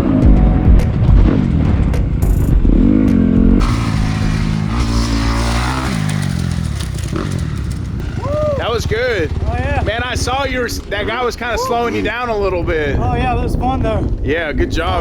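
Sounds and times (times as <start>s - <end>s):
dirt bike engine revving: 0.0s - 12.1s.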